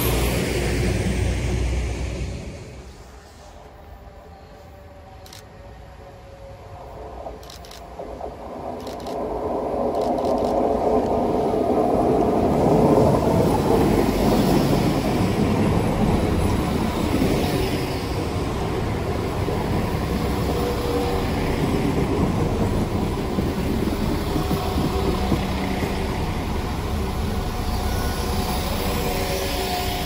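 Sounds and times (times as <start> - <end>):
diesel train passing: 0.0 - 30.0
wheels rumbling on rails: 0.0 - 30.0.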